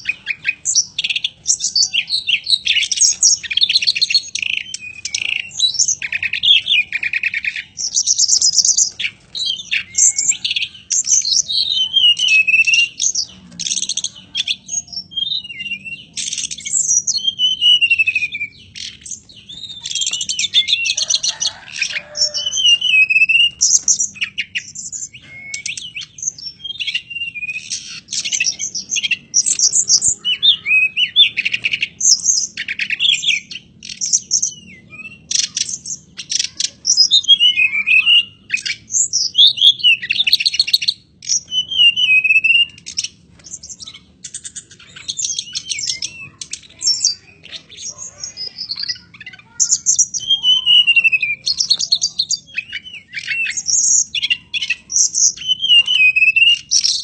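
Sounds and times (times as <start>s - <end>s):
bird singing with trills and whistles: 0.0s - 57.0s.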